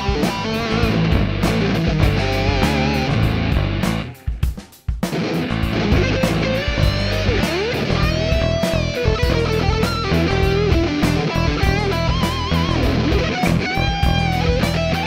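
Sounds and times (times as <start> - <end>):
electric guitar lead: 0.0 - 4.4, 5.0 - 15.0
rock drums: 0.0 - 15.0.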